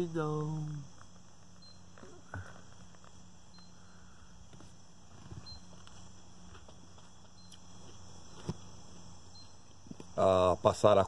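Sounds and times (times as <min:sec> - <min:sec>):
crickets and insects trilling: 0:00.0 - 0:11.0
low steady hum: 0:00.0 - 0:11.0.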